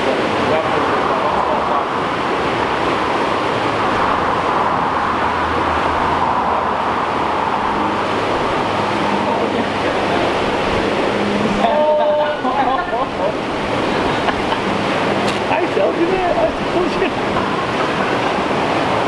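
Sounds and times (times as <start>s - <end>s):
turbulent water rushing: 0.0s - 19.0s.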